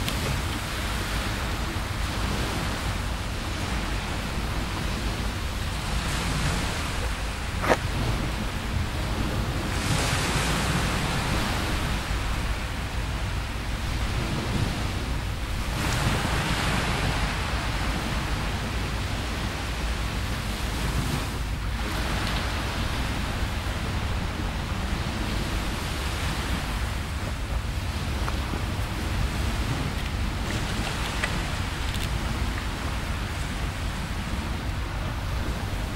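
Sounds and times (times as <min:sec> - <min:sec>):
small waves washing on beach: 0:00.0 - 0:35.9
wind rumble on microphone: 0:00.0 - 0:35.9.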